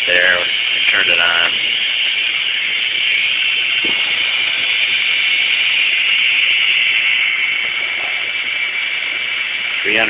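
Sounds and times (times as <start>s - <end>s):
spark gap hissing: 0.0s - 10.0s.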